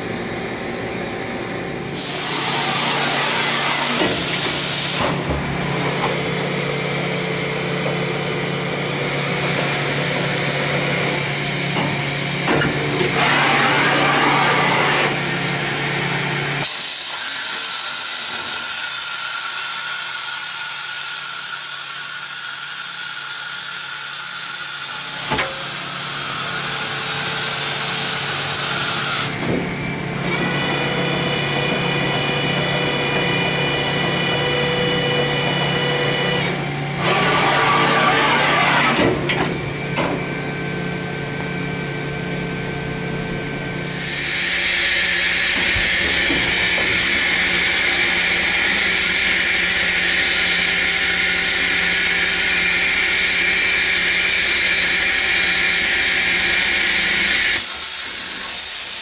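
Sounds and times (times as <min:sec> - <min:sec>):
machine whine: 0:00.0 - 0:22.4, 0:23.5 - 0:59.0.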